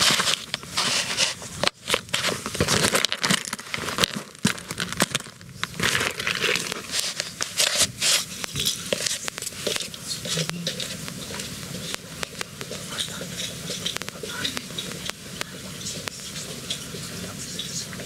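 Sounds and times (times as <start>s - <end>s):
bedding and clothing rustling: 0.0s - 18.0s.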